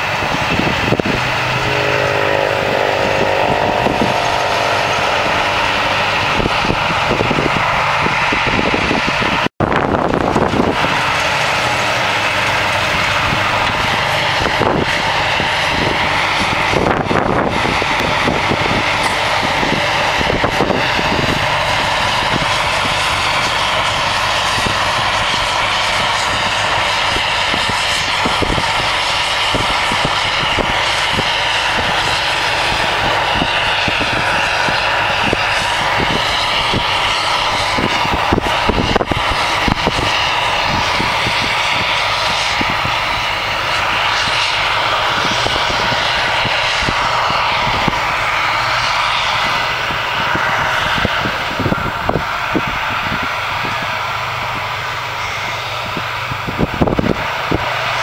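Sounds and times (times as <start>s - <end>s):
forage harvester droning: 0.0s - 58.0s.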